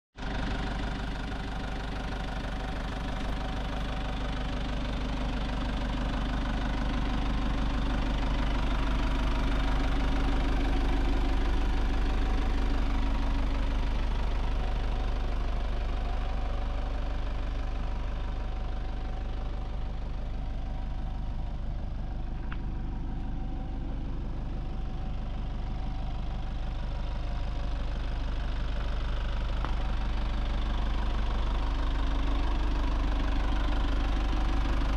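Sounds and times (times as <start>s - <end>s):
diesel truck engine running: 0.2s - 34.9s.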